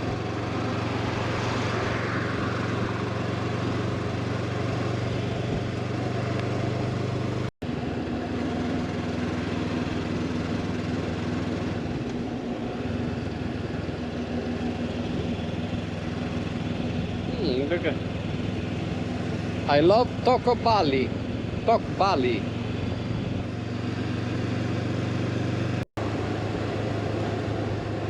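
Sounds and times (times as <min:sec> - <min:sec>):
motorcycle engine running: 0:00.0 - 0:28.0
wind and road noise: 0:00.0 - 0:28.0.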